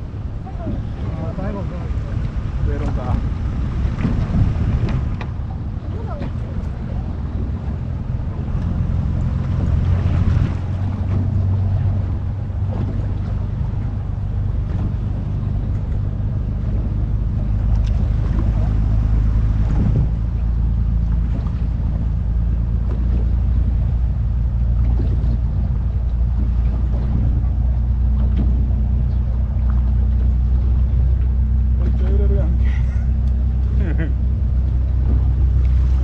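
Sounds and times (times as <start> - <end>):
boat engine humming: 0.0 - 36.0
water sloshing against hull: 0.0 - 36.0
wind on microphone: 0.0 - 36.0.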